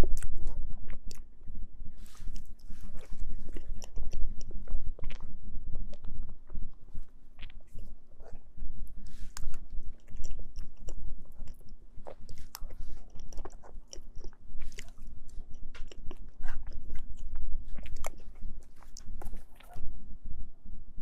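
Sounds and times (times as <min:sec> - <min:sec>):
mouth clicks and smacks: 0:00.0 - 0:01.4, 0:02.1 - 0:06.8, 0:07.4 - 0:19.9
chewing cake: 0:00.0 - 0:19.9.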